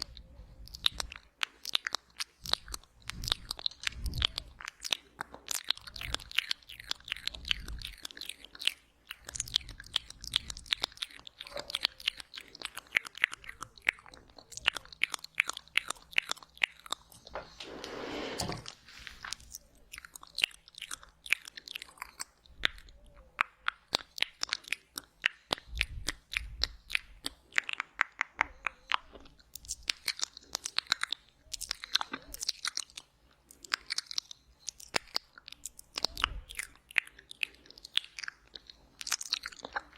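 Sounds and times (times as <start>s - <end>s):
wet mouth clicks and smacks: 0.0s - 17.3s, 18.7s - 39.9s.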